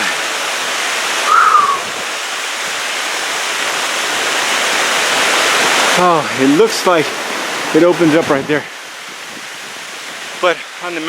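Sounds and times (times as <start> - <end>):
creek cascading over rocks: 2.1 - 11.0.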